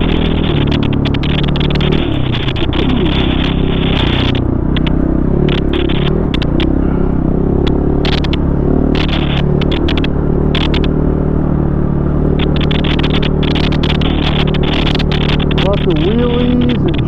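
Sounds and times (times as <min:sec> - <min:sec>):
constant rushing noise: 0:00.0 - 0:17.0
dirt bike engine revving: 0:00.0 - 0:17.0.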